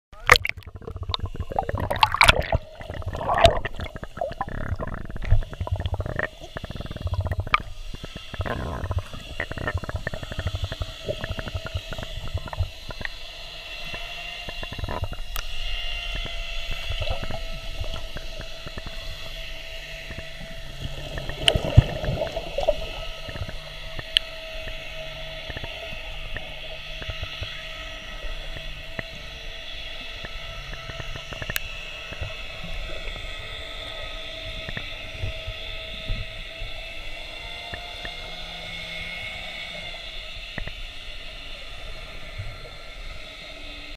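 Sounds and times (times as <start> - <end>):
jumble of noise: 0.1 - 43.9
muffled underwater rumble: 0.2 - 43.9.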